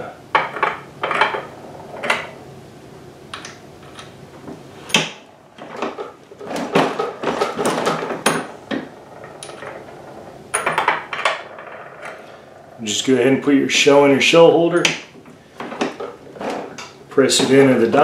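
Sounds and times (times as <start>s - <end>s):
brass cases rattling: 0.3s - 18.0s.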